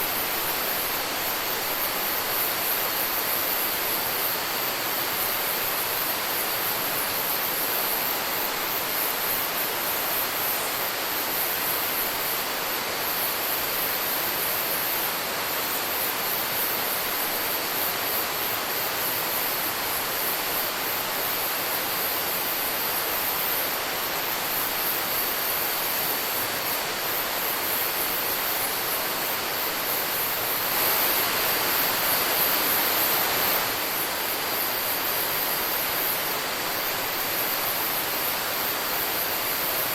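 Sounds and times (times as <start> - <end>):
high insect trill: 0.0 - 39.9
steady rushing hiss: 0.0 - 39.9.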